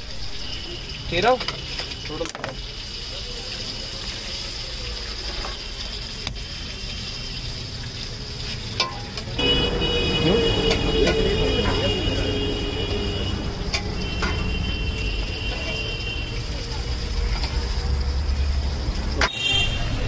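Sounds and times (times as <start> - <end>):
food frying in oil hiss: 0.0 - 20.0
traffic noise: 0.0 - 20.0.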